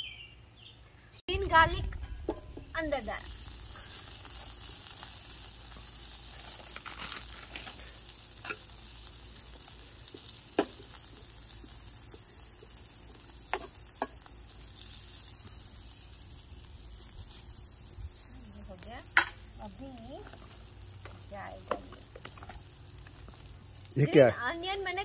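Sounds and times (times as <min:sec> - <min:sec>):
vegetables sizzling in hot oil: 0:01.5 - 0:25.0.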